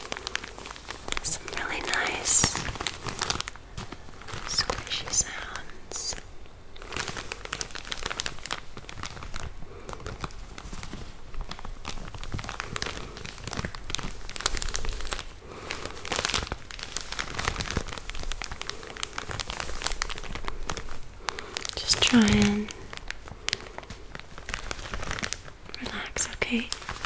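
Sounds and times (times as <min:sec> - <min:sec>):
package crinkling: 0:00.0 - 0:27.0.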